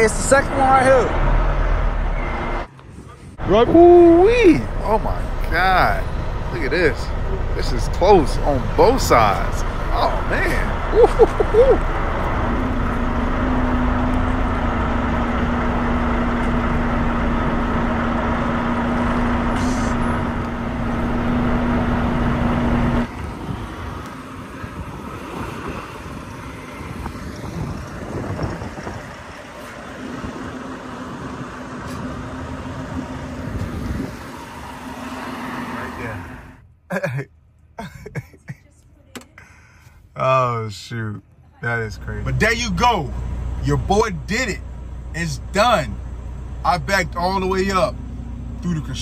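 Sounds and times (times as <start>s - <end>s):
truck diesel engine running: 0.0s - 37.0s, 41.6s - 49.0s.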